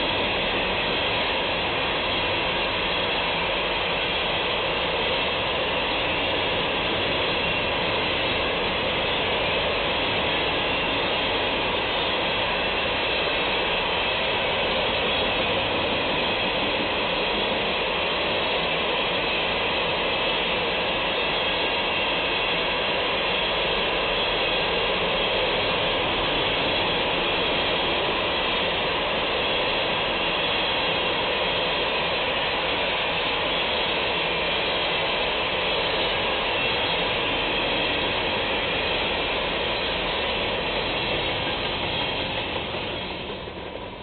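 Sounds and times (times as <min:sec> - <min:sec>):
train wheels rolling on track: 0:00.0 - 0:44.0.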